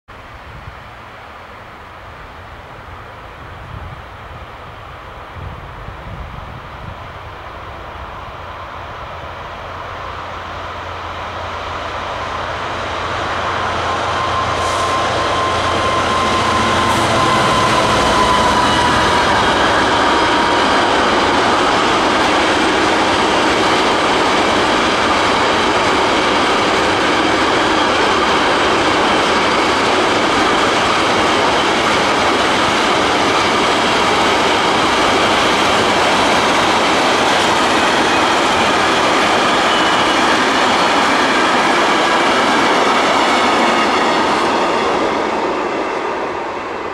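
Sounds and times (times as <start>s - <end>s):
diesel locomotive engine: 0.2s - 46.9s
steel wheels rushing on rail: 0.5s - 46.9s.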